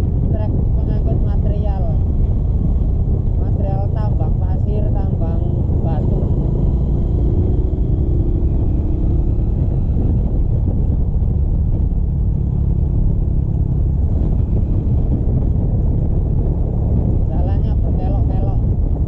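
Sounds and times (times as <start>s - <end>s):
low rumble: 0.0s - 19.0s
motorcycle engine running: 0.0s - 19.0s.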